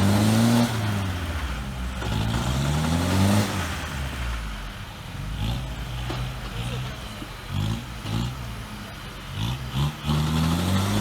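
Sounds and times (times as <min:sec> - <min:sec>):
off-road engine revving: 0:00.0 - 0:11.0.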